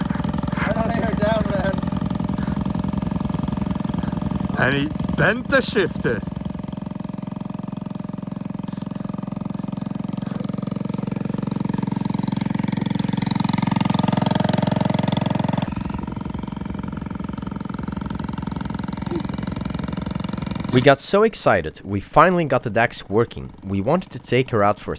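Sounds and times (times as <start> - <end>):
small minibike engine running: 0.0 - 21.4, 22.1 - 24.9.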